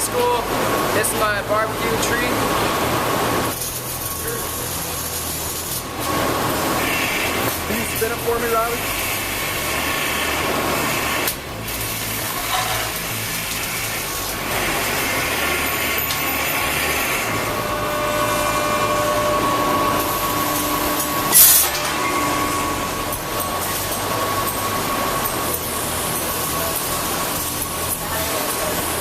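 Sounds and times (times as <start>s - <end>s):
machine whining tones: 0.0s - 29.0s
machinery hiss and rumble: 0.0s - 29.0s
sharp hiss: 0.0s - 29.0s.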